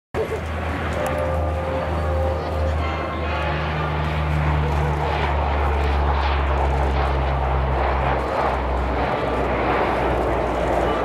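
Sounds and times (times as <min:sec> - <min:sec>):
turboprop aircraft drone: 0:00.2 - 0:11.0.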